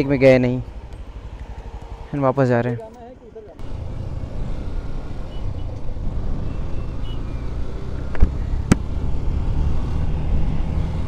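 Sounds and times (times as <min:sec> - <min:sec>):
motorcycle engine running: 0:00.0 - 0:09.3
road and wind noise: 0:00.0 - 0:11.0.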